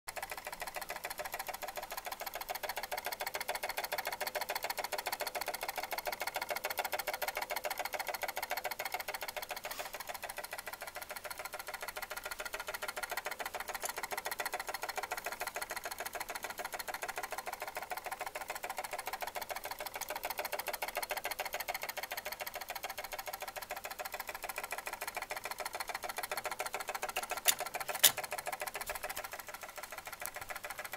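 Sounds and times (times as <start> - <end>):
clock mechanism rattling: 0.1 - 30.9.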